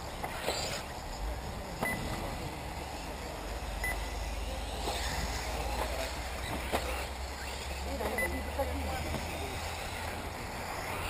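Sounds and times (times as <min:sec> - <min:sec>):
rc car swooshing past: 0:00.0 - 0:11.0
rc cars running: 0:00.0 - 0:11.0.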